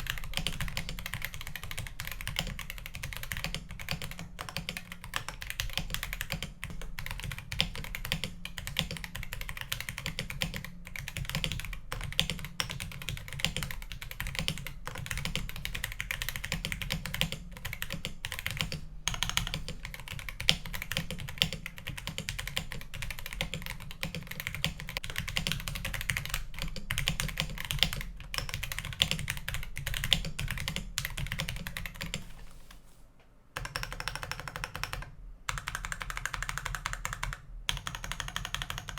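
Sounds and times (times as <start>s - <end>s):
mechanical keyboard typing: 0.0s - 32.3s, 33.6s - 38.9s.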